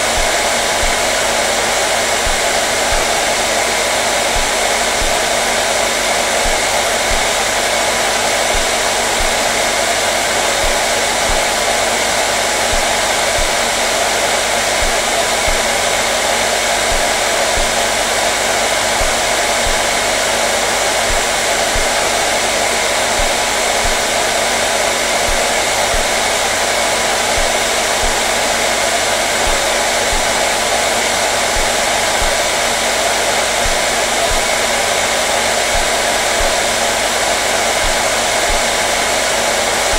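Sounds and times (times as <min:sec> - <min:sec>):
hair dryer whooshing: 0:00.0 - 0:39.9.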